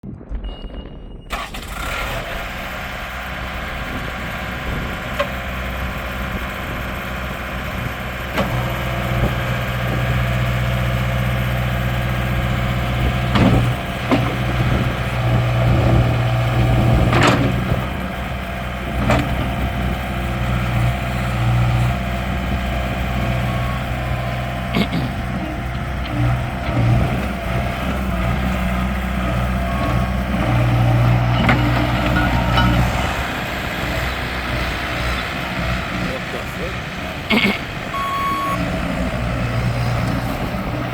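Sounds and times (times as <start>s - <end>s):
diesel engine starting and running: 0.0s - 40.9s.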